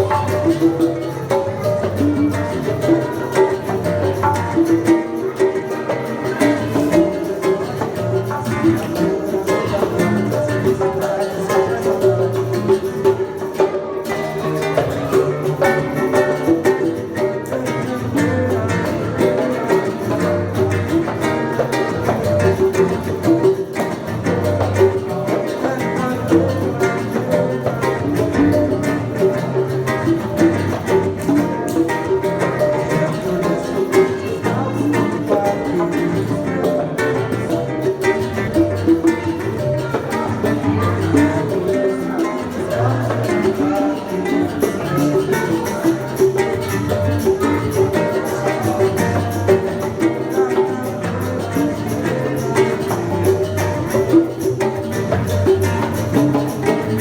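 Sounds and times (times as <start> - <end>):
acoustic guitar playing: 0.0 - 57.0
hand percussion: 0.0 - 57.0.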